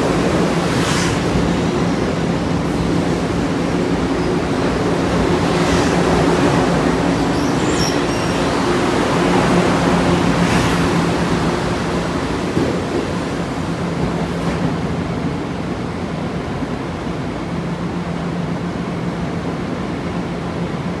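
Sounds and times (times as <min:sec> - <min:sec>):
electric train rumbling in tunnel: 0:00.0 - 0:21.0.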